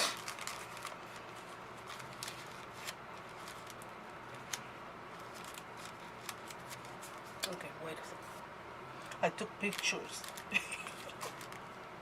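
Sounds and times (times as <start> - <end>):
paper packaging rustling: 0.0 - 7.5, 9.6 - 11.8.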